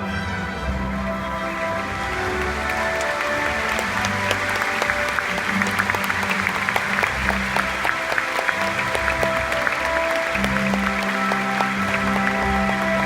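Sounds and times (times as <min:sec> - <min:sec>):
audience applauding: 0:01.1 - 0:13.0.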